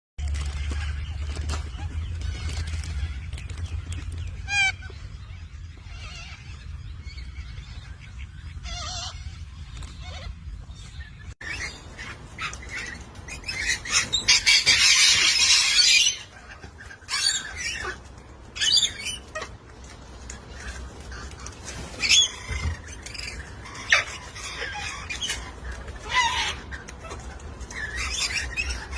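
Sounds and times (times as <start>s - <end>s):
birds squawking: 0.2s - 28.9s.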